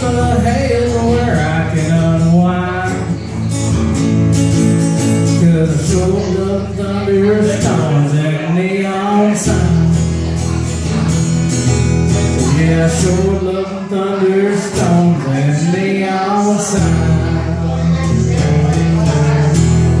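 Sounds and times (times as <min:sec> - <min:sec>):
man singing: 0:00.0 - 0:04.0, 0:04.6 - 0:11.0, 0:12.1 - 0:20.0
acoustic guitar strumming: 0:00.0 - 0:20.0.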